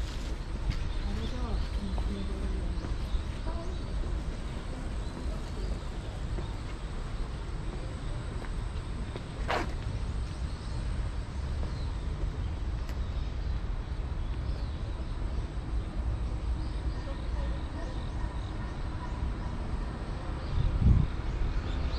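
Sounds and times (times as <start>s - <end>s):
traffic rumble: 0.0s - 21.9s.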